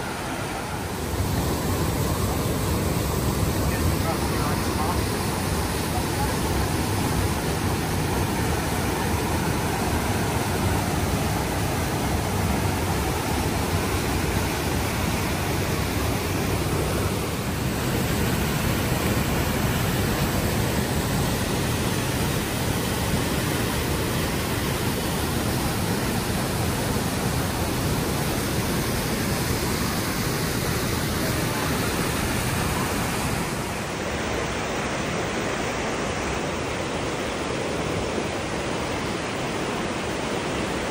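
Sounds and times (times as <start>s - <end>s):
white water rushing: 0.0s - 40.9s.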